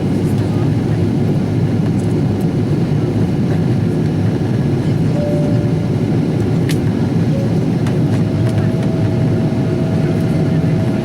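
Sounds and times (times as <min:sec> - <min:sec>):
aircraft engines rumbling in cabin: 0:00.0 - 0:11.0.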